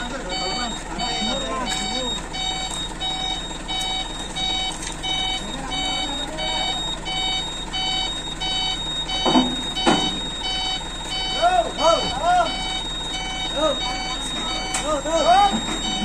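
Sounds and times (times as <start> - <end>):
low engine hum: 0.0 - 16.0
reversing alarm beeping: 0.0 - 16.0.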